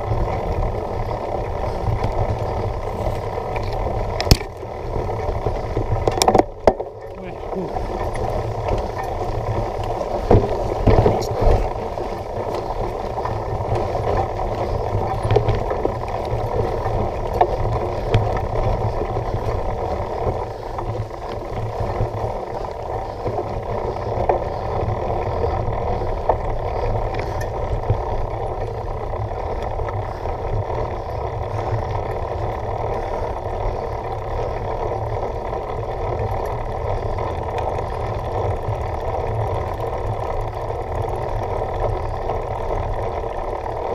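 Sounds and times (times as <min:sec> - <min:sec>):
mountain bike rolling over dirt: 0:00.0 - 0:43.9
wind buffeting microphone: 0:00.0 - 0:43.9.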